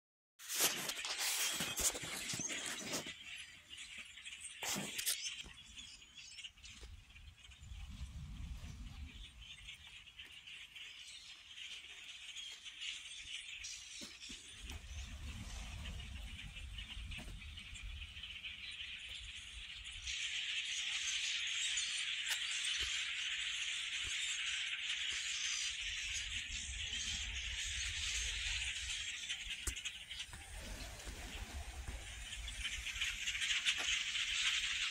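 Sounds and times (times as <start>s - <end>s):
flock of birds chattering: 0.5s - 34.9s.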